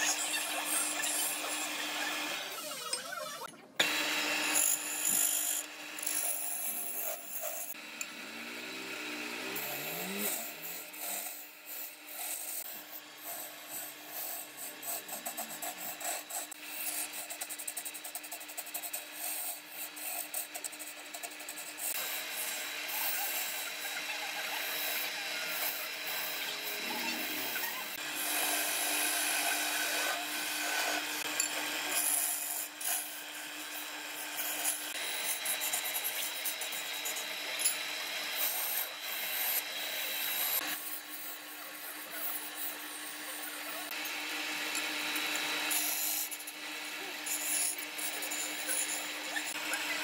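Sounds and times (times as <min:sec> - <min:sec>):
wood lathe humming: 0:00.0 - 0:02.7, 0:03.8 - 0:50.0
chisel scraping spinning wood: 0:03.9 - 0:50.0.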